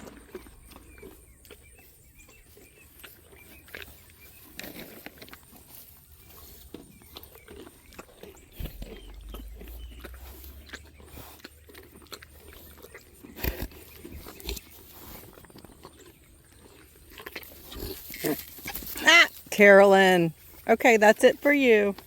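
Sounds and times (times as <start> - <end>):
animals crunching treats: 0.0 - 22.0.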